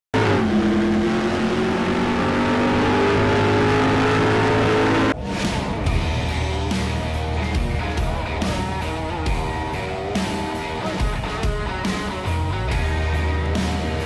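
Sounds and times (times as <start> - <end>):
engine running at high revs: 0.1 - 14.0
guitar music: 1.0 - 14.0.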